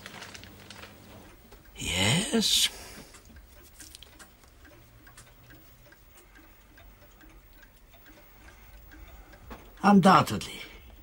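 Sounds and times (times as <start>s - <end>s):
clock ticking: 1.3s - 11.0s.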